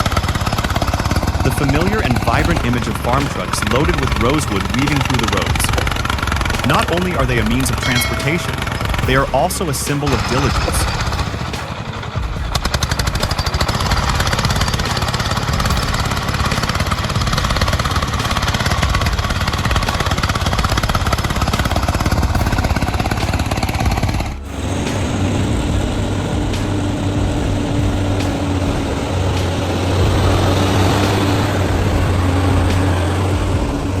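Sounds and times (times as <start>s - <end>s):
low engine hum: 0.0s - 34.0s
truck engine pounding chug: 0.0s - 34.0s.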